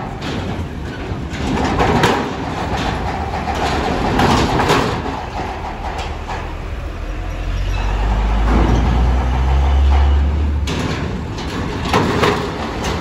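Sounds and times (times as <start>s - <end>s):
truck engine rumble: 0.0s - 13.0s
wheels clanking over steel plates: 0.0s - 13.0s.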